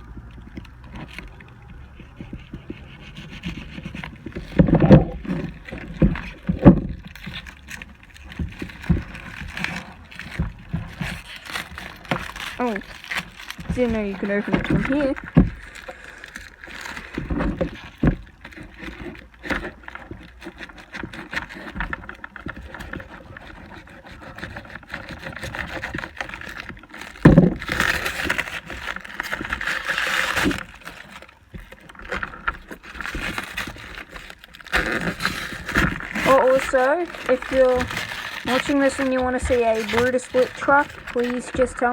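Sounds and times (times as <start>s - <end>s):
package knocks and scrapes: 0.0s - 41.9s
package rustling: 0.0s - 41.9s.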